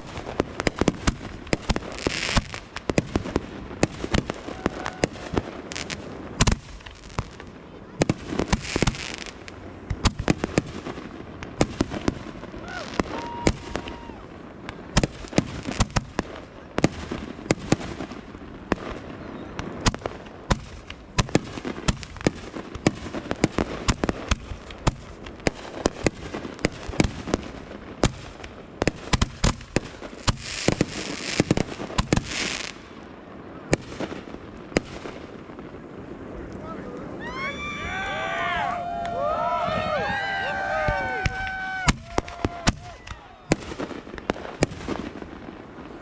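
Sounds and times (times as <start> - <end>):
fireworks bangs and pops: 0.0 - 38.1, 39.0 - 46.0
fireworks hissing crackle: 0.0 - 46.0.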